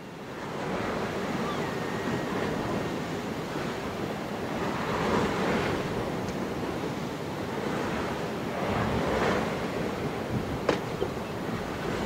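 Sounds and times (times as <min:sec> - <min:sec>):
sea surf washing in: 0:00.0 - 0:12.0
wind on microphone: 0:00.2 - 0:12.0.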